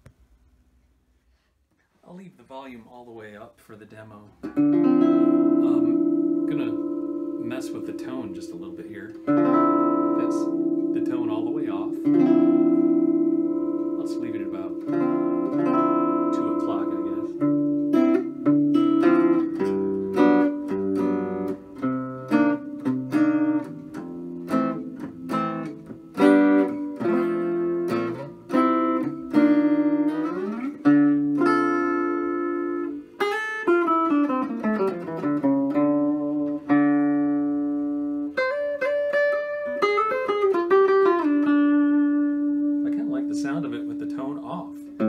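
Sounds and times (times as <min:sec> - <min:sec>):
electric guitar picking: 0:04.4 - 0:45.0.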